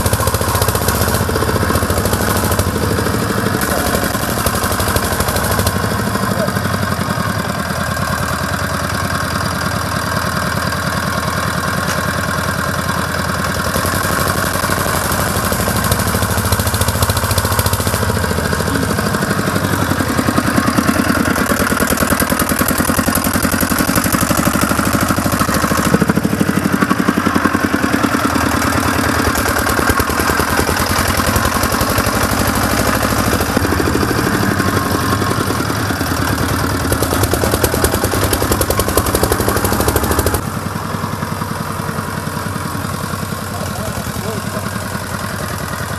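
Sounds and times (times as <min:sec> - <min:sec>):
quad bike engine running: 0:00.0 - 0:45.9.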